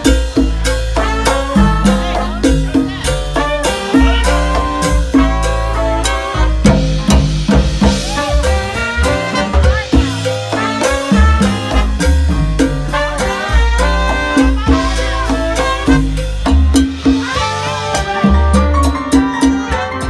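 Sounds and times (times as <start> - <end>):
bass line: 0.0 - 20.0
horns: 0.0 - 20.0
latin jazz band playing: 0.0 - 20.0.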